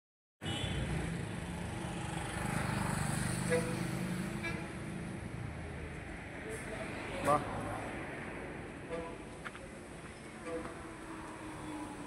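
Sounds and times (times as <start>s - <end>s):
road traffic engine hum: 0.4s - 12.0s.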